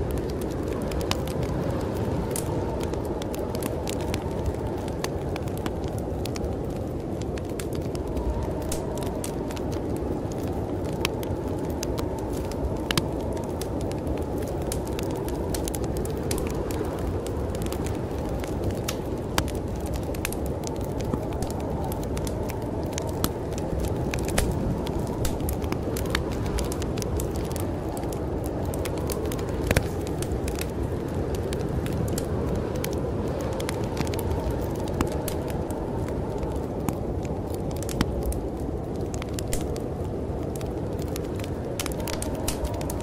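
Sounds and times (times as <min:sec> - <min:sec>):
storm wind rumble: 0:00.0 - 0:43.0
wood fire crackling: 0:00.0 - 0:43.0.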